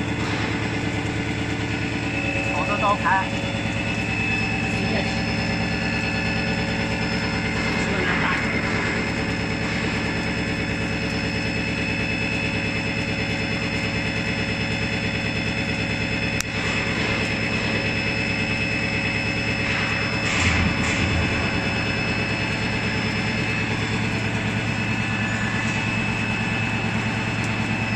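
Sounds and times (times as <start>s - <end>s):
milling machine drone: 0.0s - 27.9s.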